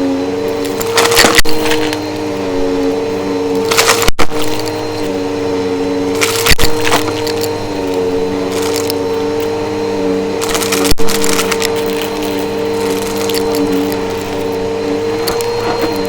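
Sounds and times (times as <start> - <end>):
vacuum cleaner motor hum: 0.0 - 16.0
debris crackling in vacuum: 0.3 - 16.0.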